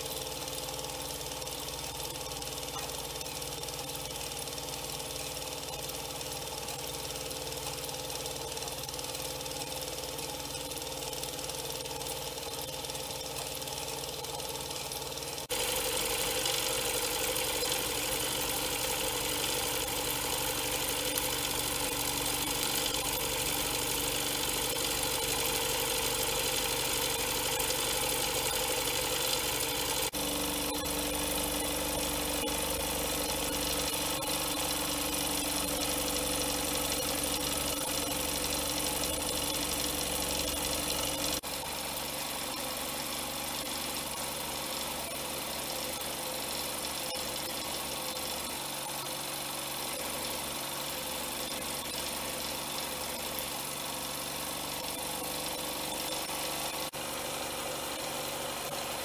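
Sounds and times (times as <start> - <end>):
toy steam engine running: 0.0 - 59.0.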